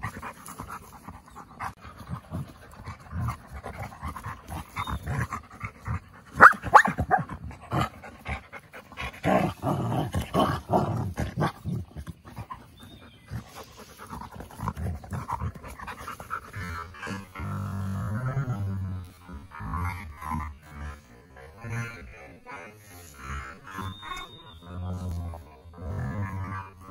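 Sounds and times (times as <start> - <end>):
dogs panting: 0.0 - 26.9
dogs growling bursts: 1.6 - 26.9.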